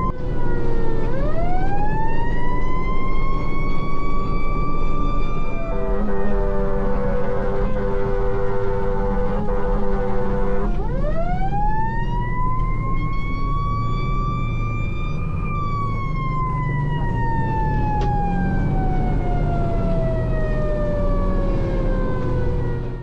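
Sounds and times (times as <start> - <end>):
fire engine siren wailing: 0.0 - 23.0
low engine rumble: 0.0 - 23.0.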